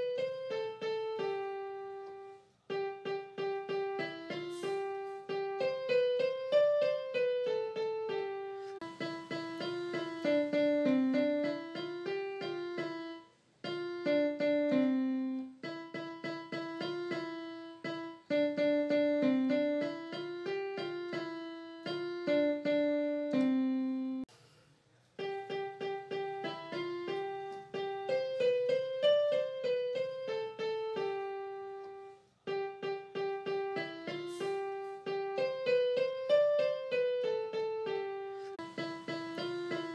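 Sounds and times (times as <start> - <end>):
simple keyboard melody: 0.0 - 24.3, 25.2 - 39.9.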